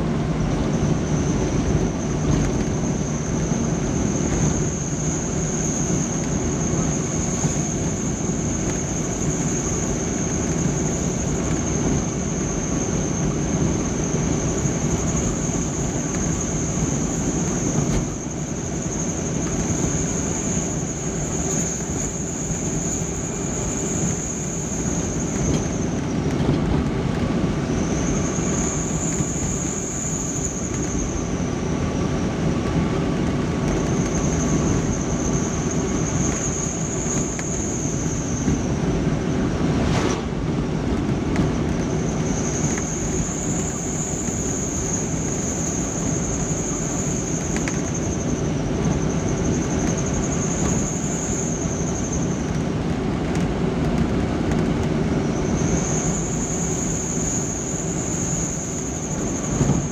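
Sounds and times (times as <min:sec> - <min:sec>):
high whine: 0:00.0 - 0:59.9
truck engine and road noise: 0:00.0 - 0:59.9.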